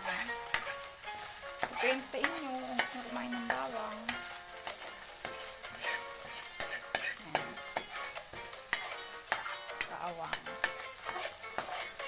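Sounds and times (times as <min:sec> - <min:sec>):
food sizzling in hot oil: 0:00.0 - 0:12.0
spatula scraping in a wok: 0:00.0 - 0:12.0.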